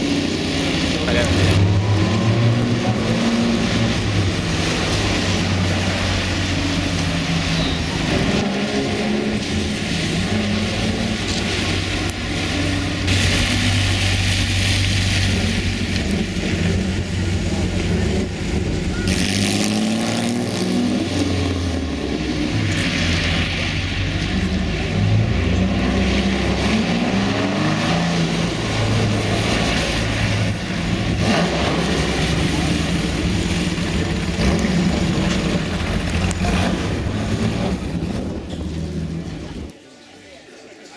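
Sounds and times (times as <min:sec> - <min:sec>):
racing car engine revving: 0:00.0 - 0:39.7
tyres hissing on wet road: 0:00.0 - 0:40.9.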